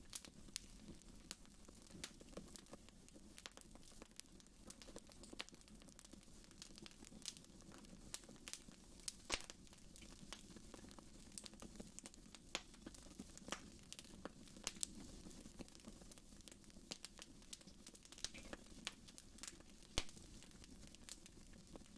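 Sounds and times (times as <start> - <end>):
faint low hiss: 0.0 - 21.9
wood fire crackling and popping: 0.0 - 21.9.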